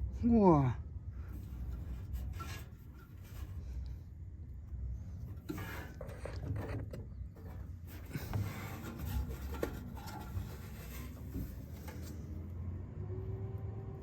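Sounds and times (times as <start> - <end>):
insulation rustling and scraping: 1.1 - 12.5.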